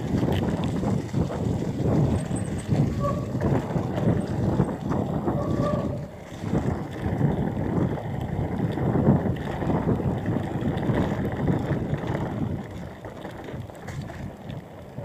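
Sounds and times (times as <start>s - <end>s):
bike rattling over bumps: 0.0s - 15.0s
bike tyres rumbling on dirt: 0.0s - 15.0s
wind rushing over microphone: 0.0s - 15.0s.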